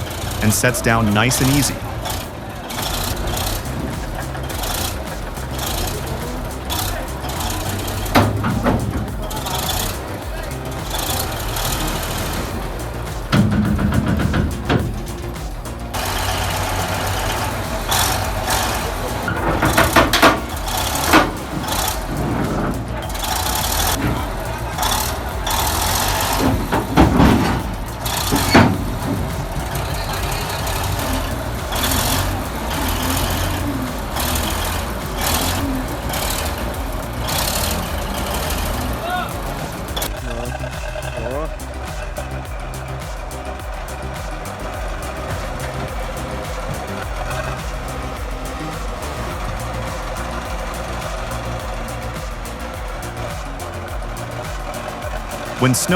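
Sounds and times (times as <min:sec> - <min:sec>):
bulldozer diesel engine running: 0:00.0 - 0:55.9
hissing noise: 0:00.0 - 0:55.9.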